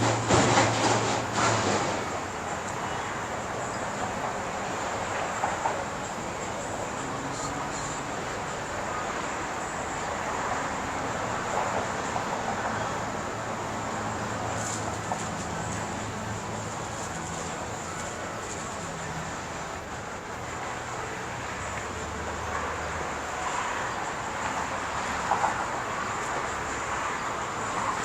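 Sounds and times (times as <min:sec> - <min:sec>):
steady background noise: 0:00.0 - 0:28.0.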